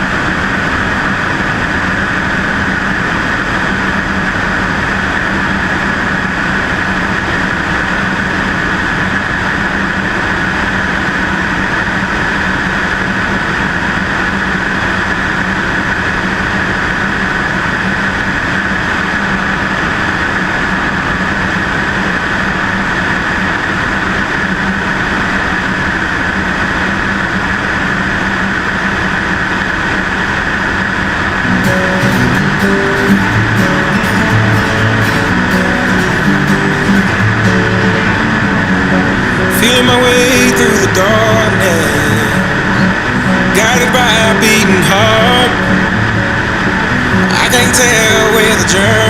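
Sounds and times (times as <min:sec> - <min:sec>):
propeller plane engine droning: 0:00.0 - 0:49.0.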